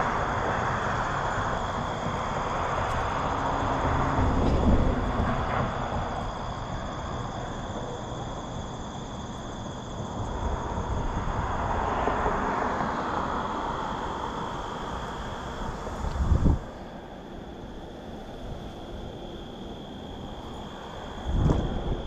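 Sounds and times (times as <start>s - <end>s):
broad rush of noise: 0.0s - 22.0s
insects trilling: 0.0s - 22.0s.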